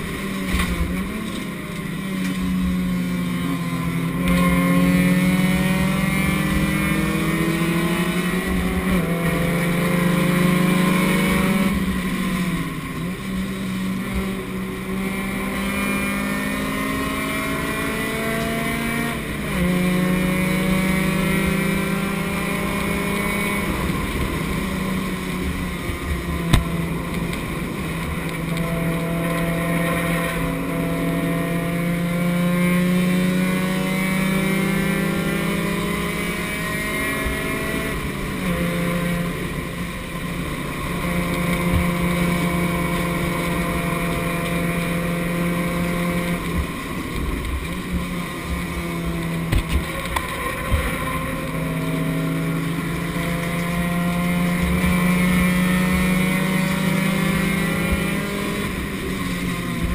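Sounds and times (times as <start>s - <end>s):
race car engine under load: 0.0s - 59.9s
wind and road noise: 0.0s - 59.9s.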